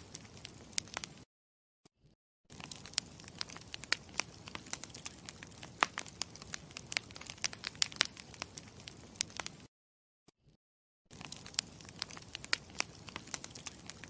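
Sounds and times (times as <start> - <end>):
campfire crackling and popping: 0.0 - 1.2, 2.5 - 9.7, 11.1 - 14.0
low rumble of burning fire: 0.0 - 1.2, 2.5 - 9.7, 11.1 - 14.0.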